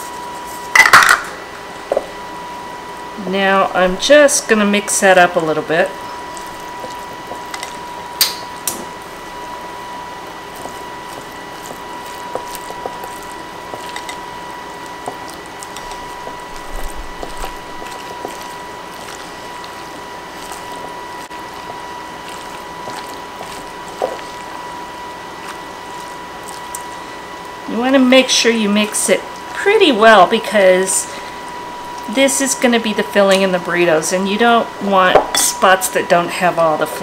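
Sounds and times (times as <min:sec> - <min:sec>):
steady high-pitched hum: 0:00.0 - 0:37.0
spoon stirring thick filling: 0:04.6 - 0:35.9.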